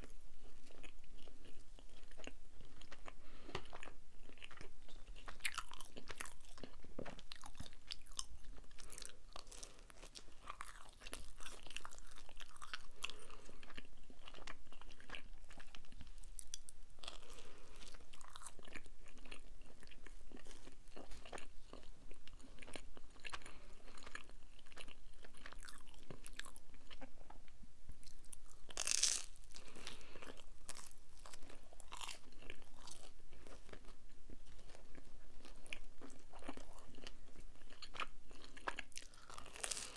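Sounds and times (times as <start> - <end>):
pizza crust crunching while chewed: 0.0 - 39.9.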